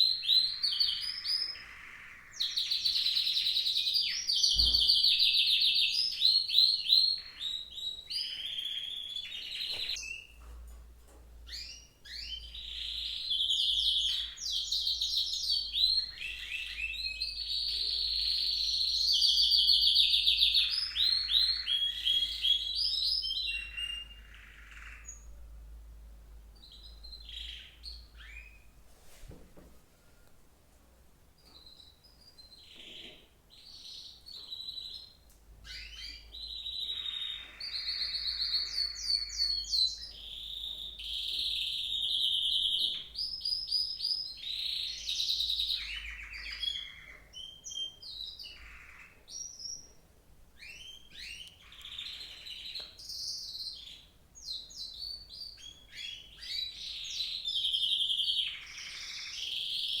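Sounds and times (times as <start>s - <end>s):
songbird singing: 0.0s - 10.4s, 11.4s - 28.8s, 31.4s - 60.0s.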